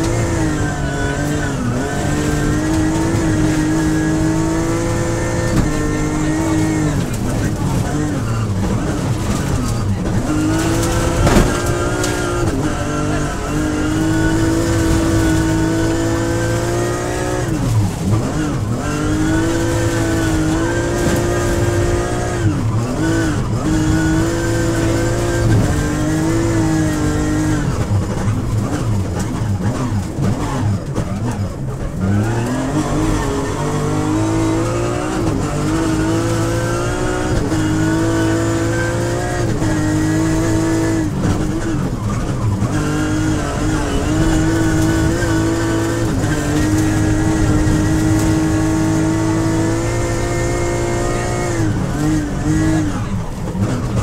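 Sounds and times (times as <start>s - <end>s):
rally car engine at high revs: 0.0s - 54.0s.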